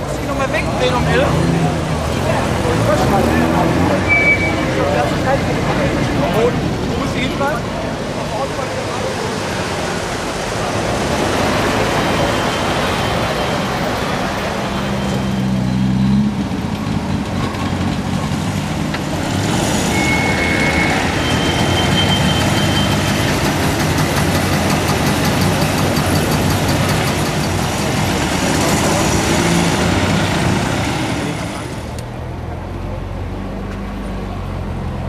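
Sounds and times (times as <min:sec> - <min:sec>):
car engines driving past: 0:00.0 - 0:35.0.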